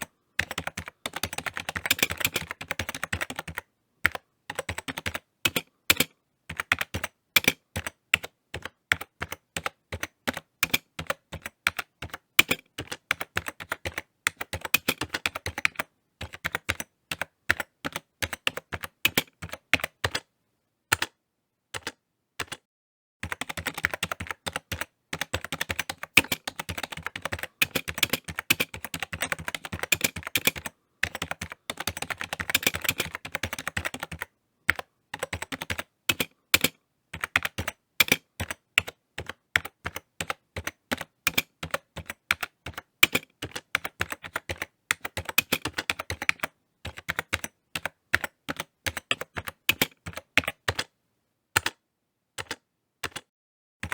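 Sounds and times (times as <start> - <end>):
typing on computer keyboard: 0.0 - 20.3, 20.9 - 21.2, 21.8 - 22.6, 23.2 - 50.9, 51.6 - 51.8, 52.4 - 53.9.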